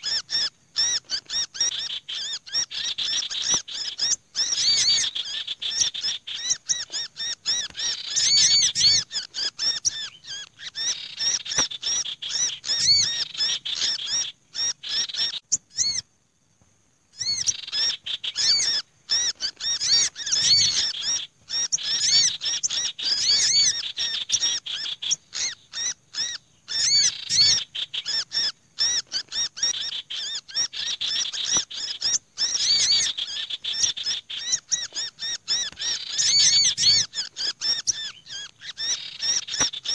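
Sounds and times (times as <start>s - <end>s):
birds harsh chattering: 0.0s - 16.0s, 17.2s - 39.9s
small birds distress calls: 0.0s - 16.1s, 17.0s - 39.9s.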